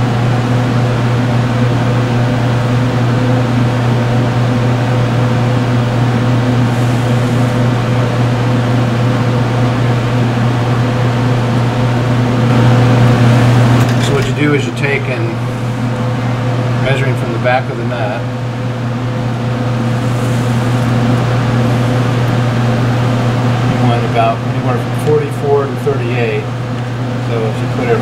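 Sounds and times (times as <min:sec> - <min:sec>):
fans humming: 0:00.0 - 0:28.0.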